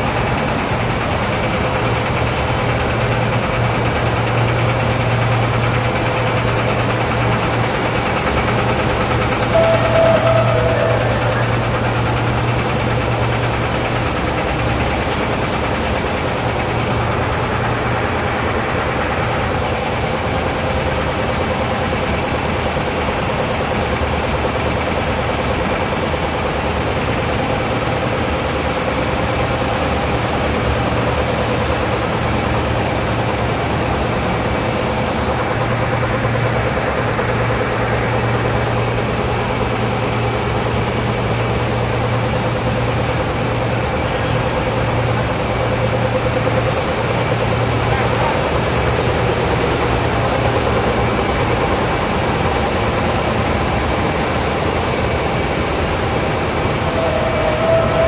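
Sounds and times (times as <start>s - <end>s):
production line machine noise: 0.0s - 58.0s.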